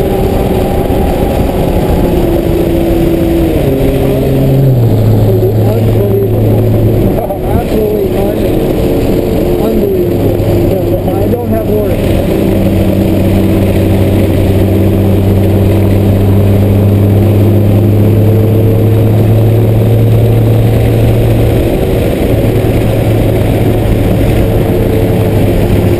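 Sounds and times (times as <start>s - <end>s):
car engine running: 0.0s - 25.9s
tyre and road noise: 0.0s - 25.9s.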